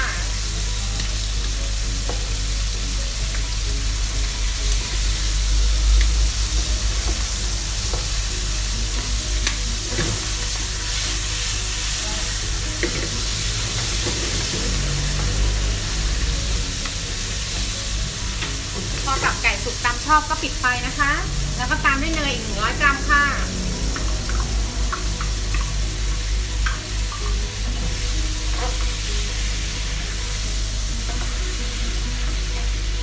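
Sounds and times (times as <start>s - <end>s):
livers sizzling in a pan: 0.0s - 33.0s.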